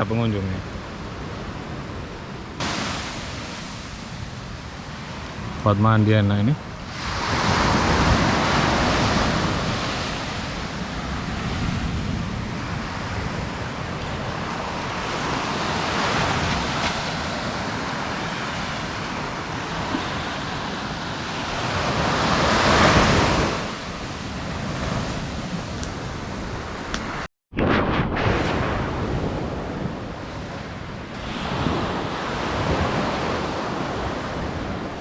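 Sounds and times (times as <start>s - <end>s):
waves breaking on beach: 0.0s - 27.3s, 28.3s - 35.0s.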